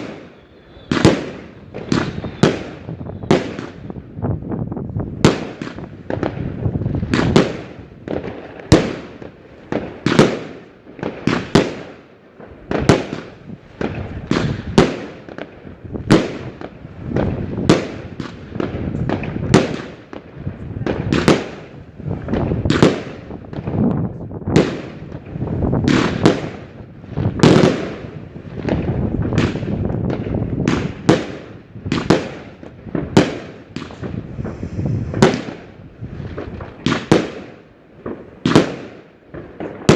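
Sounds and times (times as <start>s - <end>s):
fireworks bursting with echo: 0.0s - 39.9s.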